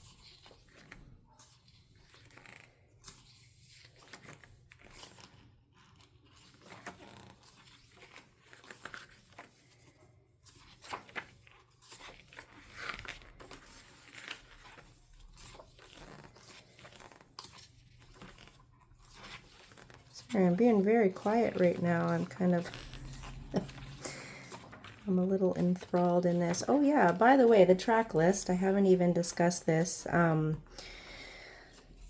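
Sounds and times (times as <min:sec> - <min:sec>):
book pages turning: 0:00.0 - 0:32.0.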